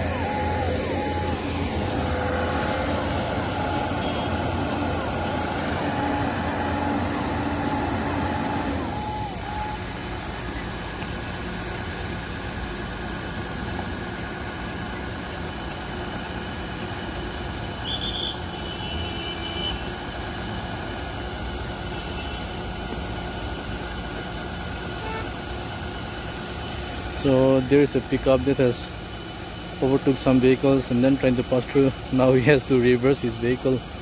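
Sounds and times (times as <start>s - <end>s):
vehicle engines in traffic: 0.0s - 34.0s.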